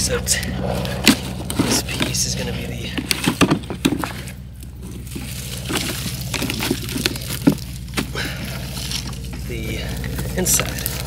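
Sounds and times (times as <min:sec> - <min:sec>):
steady low hum: 0:00.0 - 0:11.0
dry wood knocking and crunching: 0:00.6 - 0:11.0.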